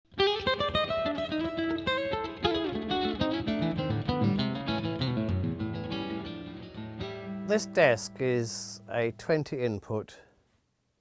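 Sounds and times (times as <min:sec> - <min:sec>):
acoustic guitar plucked and strummed: 0:00.2 - 0:09.4.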